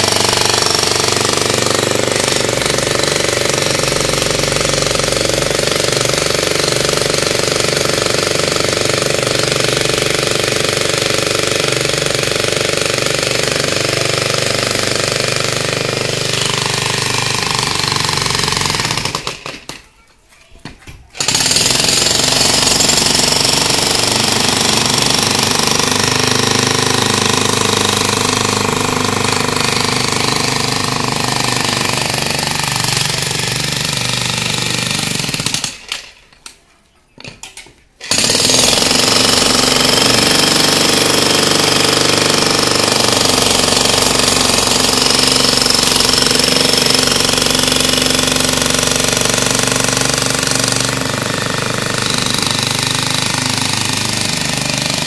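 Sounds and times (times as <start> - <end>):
demolition hammer on concrete: 0.0 - 55.0.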